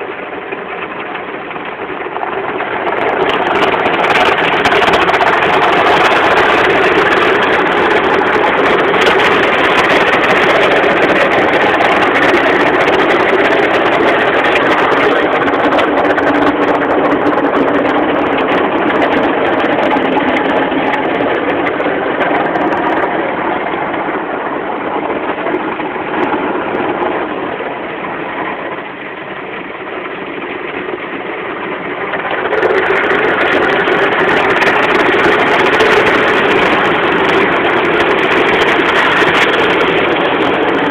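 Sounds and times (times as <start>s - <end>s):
car wash machinery running: 0.0s - 40.9s.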